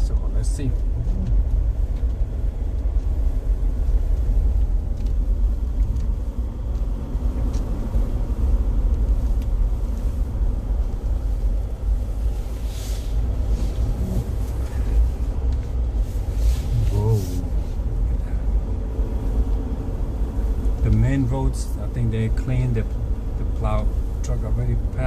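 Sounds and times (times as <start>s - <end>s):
vehicle driving through snow: 0.2s - 25.0s.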